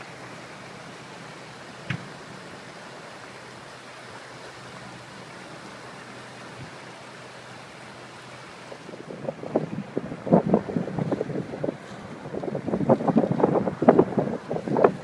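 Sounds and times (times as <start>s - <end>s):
rainwater rushing: 0.0s - 15.0s.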